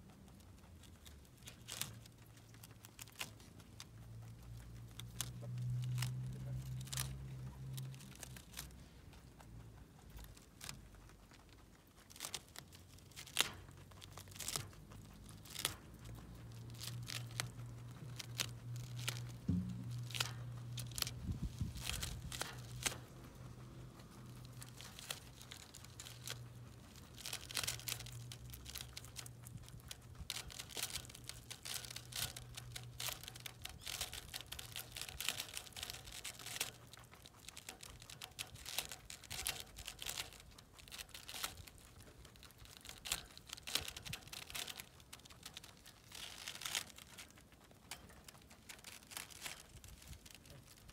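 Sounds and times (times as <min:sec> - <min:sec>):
rabbit chewing leaves: 0:00.0 - 0:50.9.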